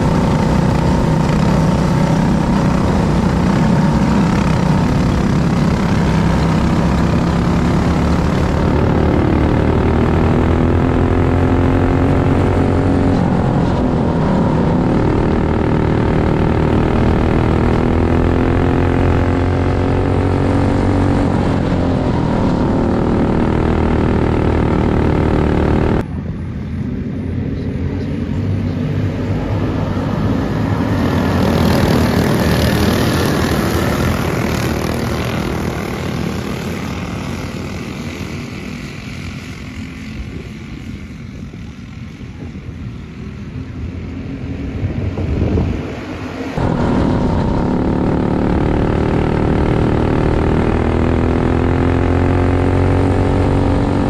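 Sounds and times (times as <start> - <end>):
distant karts droning: 0.0 - 54.0
kart engine running hard: 0.0 - 54.0.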